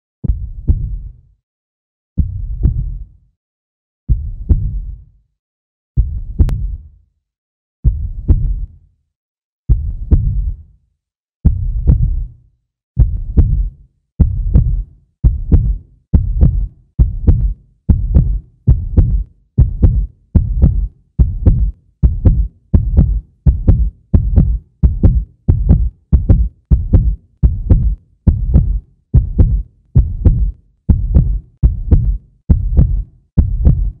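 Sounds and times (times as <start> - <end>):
deep heartbeat-like bass thumps: 0.2 - 1.2, 2.2 - 3.2, 4.1 - 5.1, 6.0 - 6.9, 7.8 - 8.7, 9.7 - 10.6, 11.4 - 12.4, 13.0 - 34.0.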